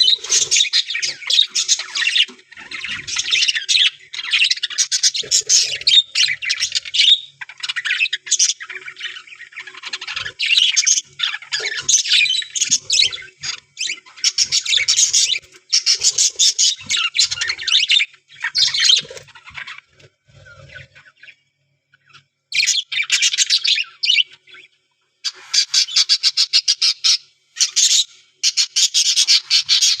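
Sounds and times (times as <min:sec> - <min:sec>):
budgerigars chattering and squawking: 0:00.0 - 0:21.3, 0:22.0 - 0:30.0.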